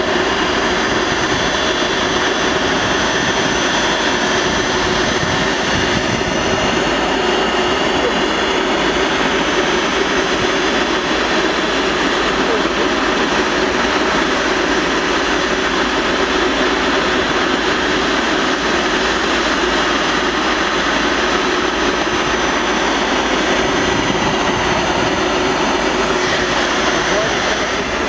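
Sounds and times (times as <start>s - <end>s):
jet turbine noise: 0.0s - 28.0s.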